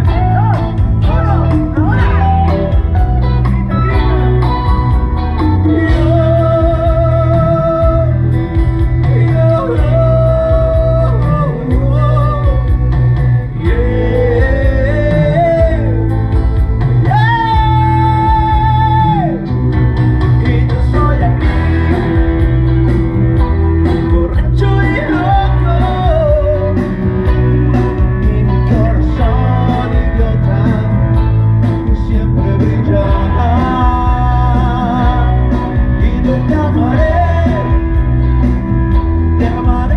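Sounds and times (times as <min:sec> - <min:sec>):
man singing into a microphone: 0:00.0 - 0:02.9, 0:05.5 - 0:16.3, 0:17.0 - 0:19.5, 0:20.2 - 0:22.2, 0:24.0 - 0:27.0, 0:27.7 - 0:38.2, 0:39.2 - 0:39.9
loud amplified music with bass: 0:00.0 - 0:39.9.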